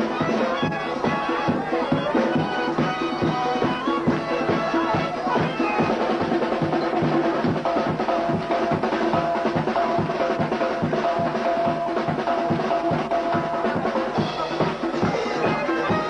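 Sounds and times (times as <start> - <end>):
drum kit beat on snare and bass: 0.0 - 16.0
live band music: 0.0 - 16.0.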